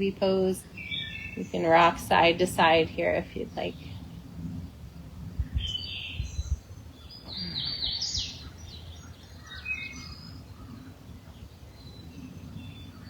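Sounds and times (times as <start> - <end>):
wild birds singing: 0.0 - 13.0.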